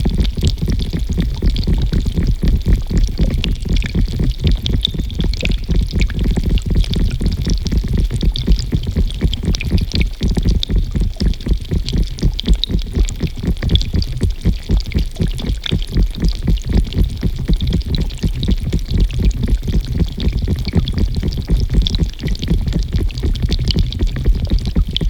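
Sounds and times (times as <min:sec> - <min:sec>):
small splashes and drips: 0:00.0 - 0:25.0
water pouring and gurgling: 0:00.0 - 0:25.0.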